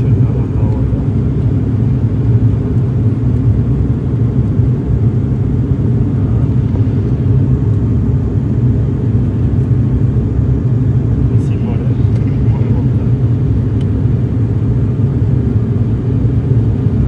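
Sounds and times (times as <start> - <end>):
vehicle interior rumble: 0.0 - 17.0.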